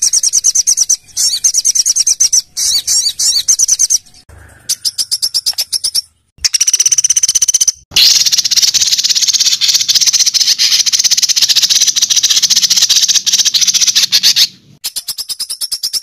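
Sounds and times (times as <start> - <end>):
rapid rattling bird trill: 0.0 - 16.0.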